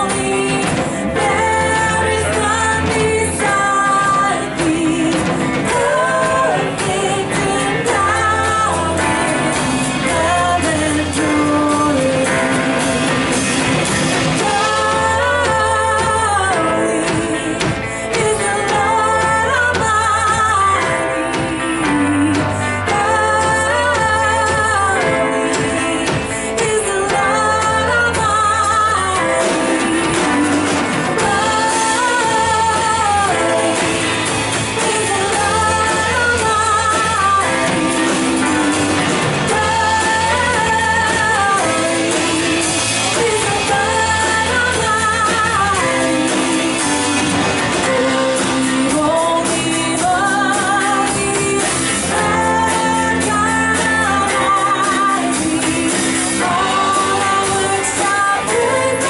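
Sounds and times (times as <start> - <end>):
voices singing: 0.0 - 59.0
worship band playing: 0.0 - 59.0.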